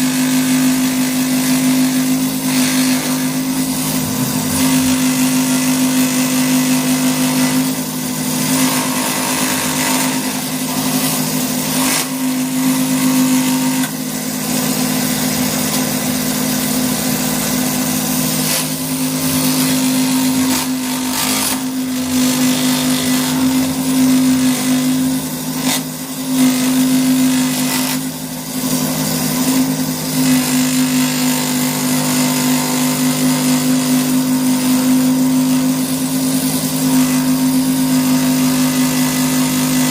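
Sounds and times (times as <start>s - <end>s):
power tool motor humming: 0.0s - 39.9s
rasping wood cutting: 0.0s - 39.9s.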